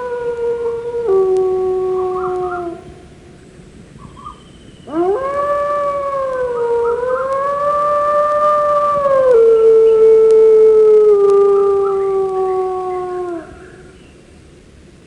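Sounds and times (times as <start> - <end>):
dog howling: 0.0 - 3.2, 4.0 - 13.8.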